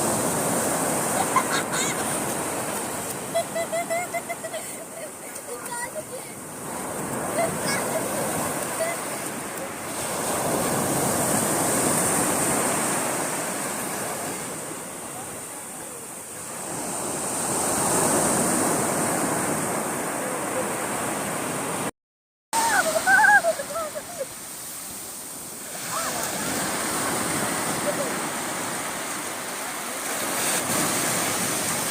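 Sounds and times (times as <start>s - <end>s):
sea waves washing onto shore: 0.0s - 21.9s, 22.6s - 31.9s.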